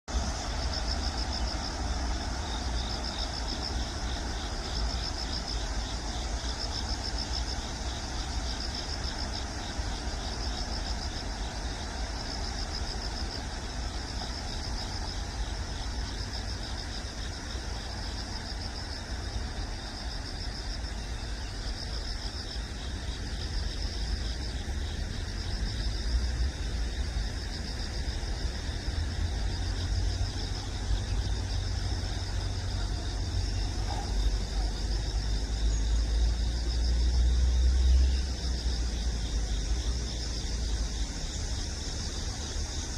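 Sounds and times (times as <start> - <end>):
distant road traffic: 0.1 - 42.9
high-pitched insect trill: 0.1 - 42.9.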